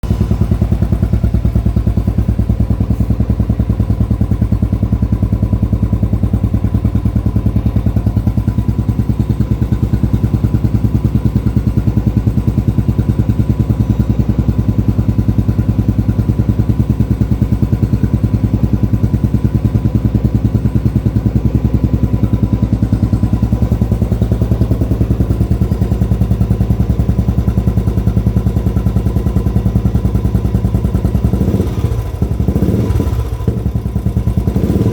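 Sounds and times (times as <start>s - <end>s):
motorcycle engine thumping: 0.0s - 34.9s.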